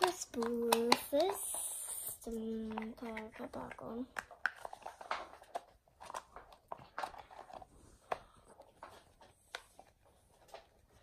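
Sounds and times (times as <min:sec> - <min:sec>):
plastic ball clicking and crackling: 0:00.0 - 0:10.9.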